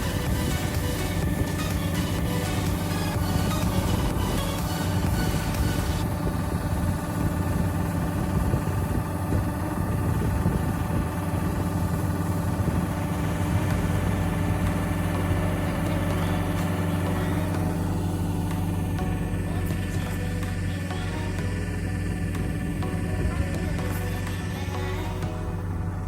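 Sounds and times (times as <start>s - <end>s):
combine harvester engine humming: 0.0s - 26.0s.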